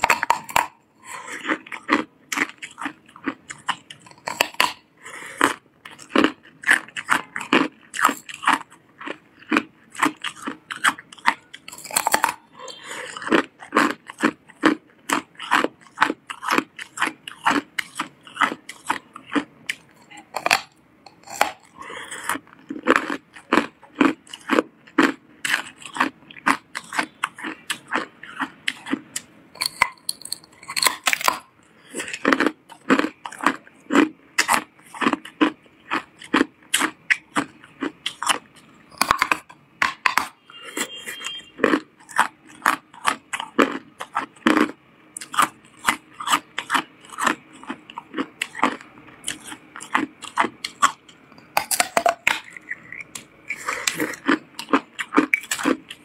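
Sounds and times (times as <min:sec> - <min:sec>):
person chewing hard ice: 0:00.0 - 0:56.0.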